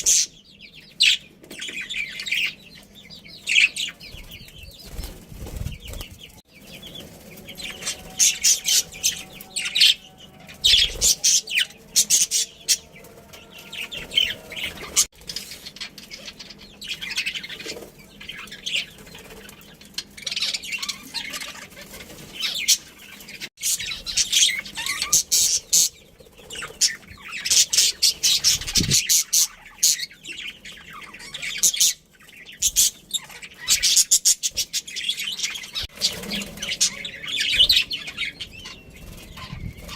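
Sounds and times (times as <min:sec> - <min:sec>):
budgerigars chirping: 0:00.0 - 0:05.2, 0:05.8 - 0:39.9.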